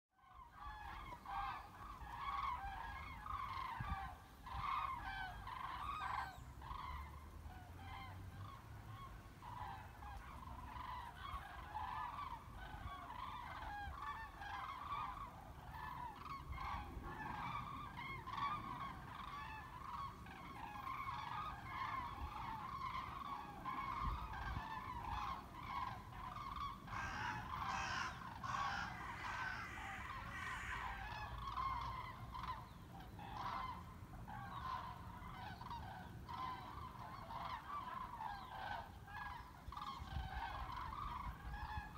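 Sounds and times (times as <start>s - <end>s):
cranes trumpeting calls: 0.2s - 41.9s.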